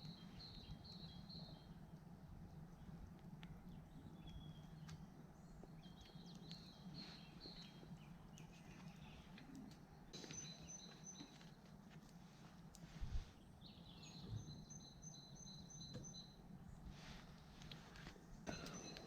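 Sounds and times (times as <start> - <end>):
birds chirping: 0.0 - 17.6, 18.4 - 19.0
low background hum: 0.0 - 19.0.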